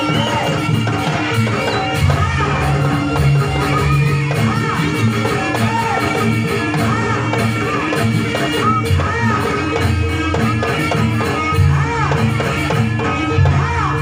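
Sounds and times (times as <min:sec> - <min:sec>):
loud music with bending melody: 0:00.0 - 0:14.0.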